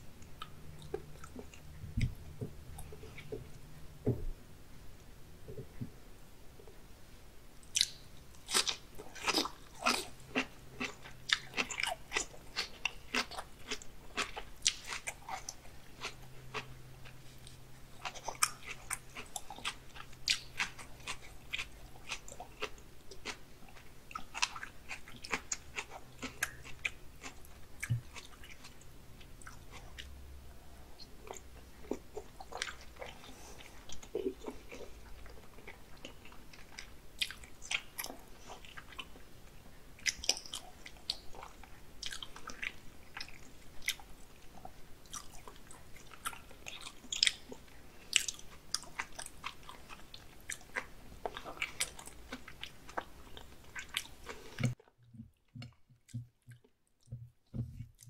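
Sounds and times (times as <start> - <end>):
wet chewing with mouth clicks: 7.6 - 30.2, 31.0 - 39.3, 40.0 - 58.0.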